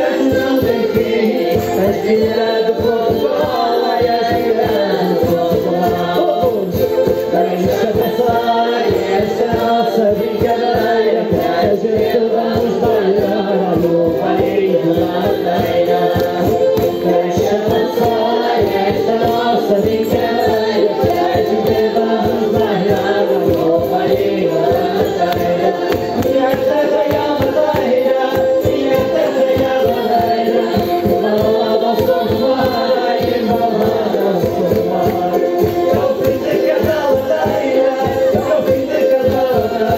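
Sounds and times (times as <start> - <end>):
folk music with group singing: 0.0 - 39.9.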